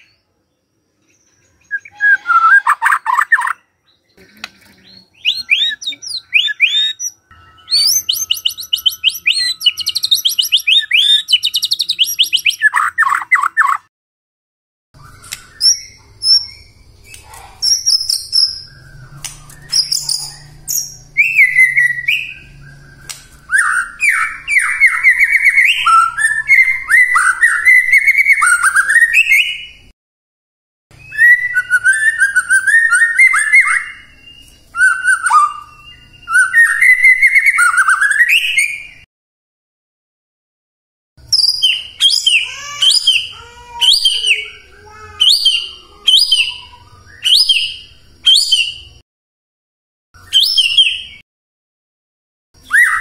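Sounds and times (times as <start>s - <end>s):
bird singing whistles and trills: 1.0s - 4.2s, 4.8s - 13.8s, 15.0s - 29.9s, 30.9s - 39.1s, 41.2s - 49.0s, 50.2s - 51.2s, 52.6s - 53.0s.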